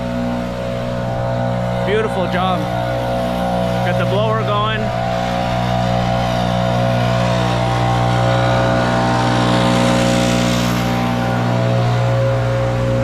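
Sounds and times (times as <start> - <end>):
leaf blower engine drone: 0.0 - 13.0
rushing air: 0.0 - 13.0.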